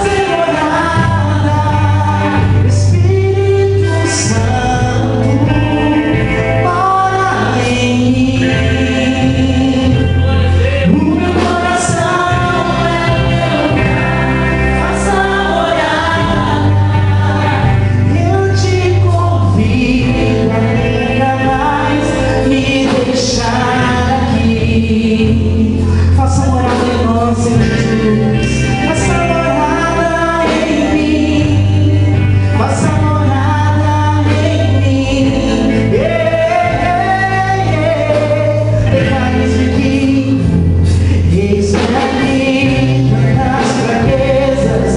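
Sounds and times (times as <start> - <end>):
bass notes: 0.0 - 44.9
gospel worship song with band: 0.0 - 44.9.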